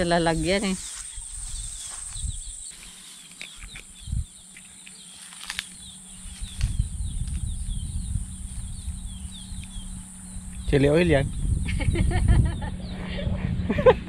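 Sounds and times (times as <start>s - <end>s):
steady high drone: 0.0s - 14.0s.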